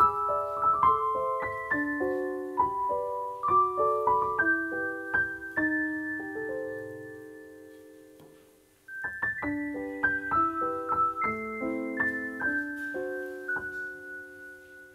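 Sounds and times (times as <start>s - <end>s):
gentle piano music: 0.0s - 14.9s.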